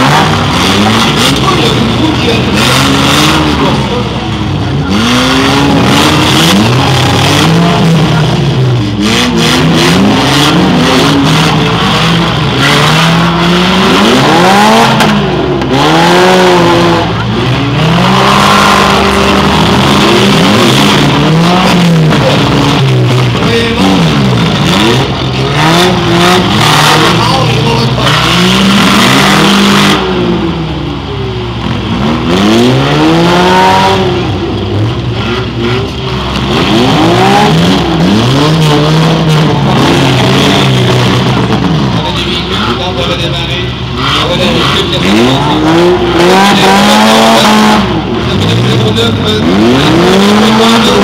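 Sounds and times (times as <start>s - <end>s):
car engines revving hard: 0.0s - 51.0s
cars crashing: 0.0s - 51.0s.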